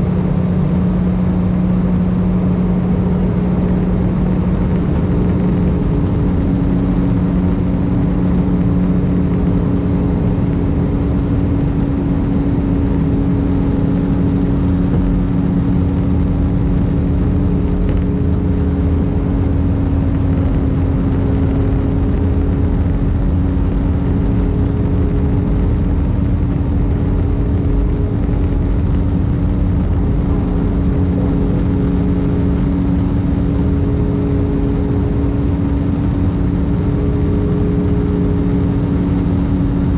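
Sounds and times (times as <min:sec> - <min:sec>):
jet engine drone: 0:00.0 - 0:39.9
low hum: 0:00.0 - 0:39.9.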